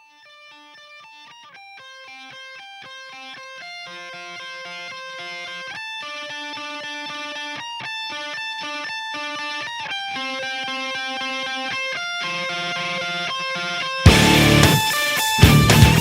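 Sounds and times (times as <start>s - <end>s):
electric guitar picking notes: 0.2s - 16.0s.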